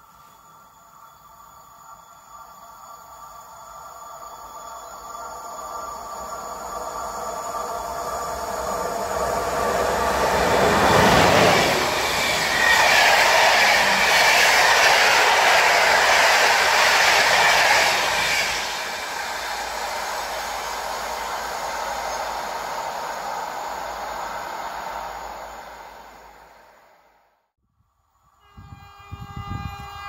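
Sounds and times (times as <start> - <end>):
train passing through station: 0.0 - 30.0.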